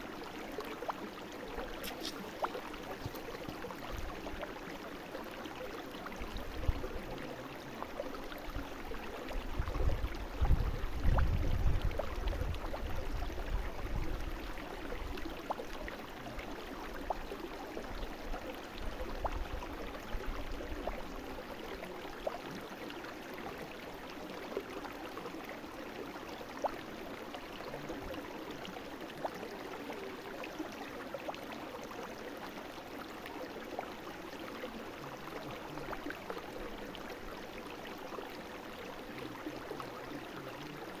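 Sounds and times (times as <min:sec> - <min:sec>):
brook water babbling over stones: 0:00.0 - 0:41.0.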